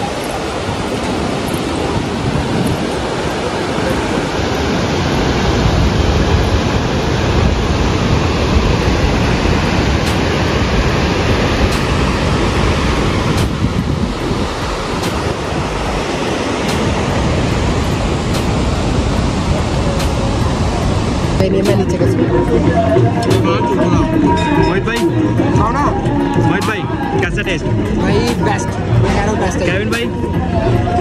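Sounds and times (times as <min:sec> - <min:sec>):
roaring mountain river: 0:00.0 - 0:31.0
wind buffeting microphone: 0:00.0 - 0:31.0.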